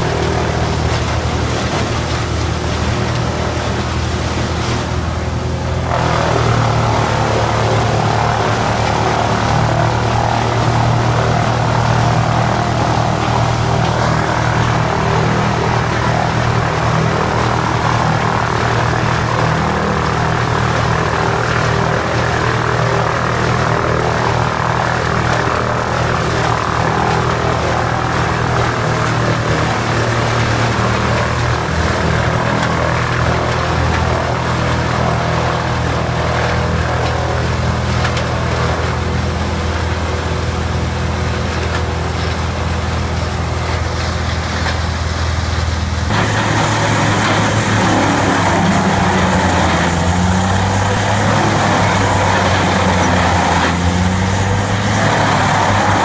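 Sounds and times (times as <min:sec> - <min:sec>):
wood chipper running: 0:00.0 - 0:56.0.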